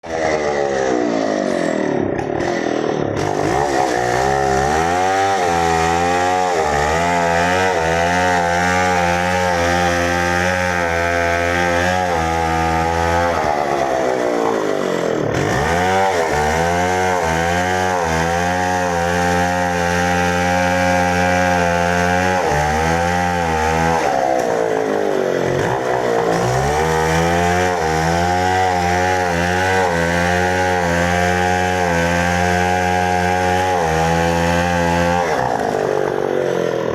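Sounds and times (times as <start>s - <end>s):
chainsaw cutting tree: 0.0s - 36.9s.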